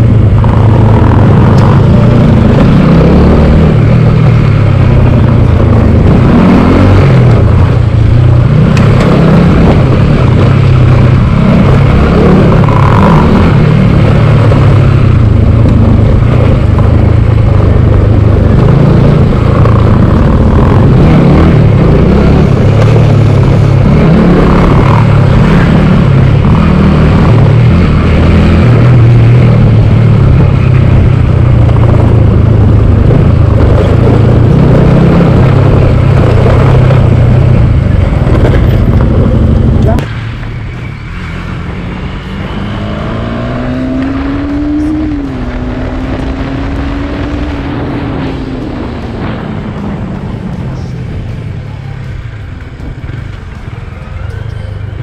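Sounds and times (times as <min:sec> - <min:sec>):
motorcycle engine rumbling: 0:00.0 - 0:55.0.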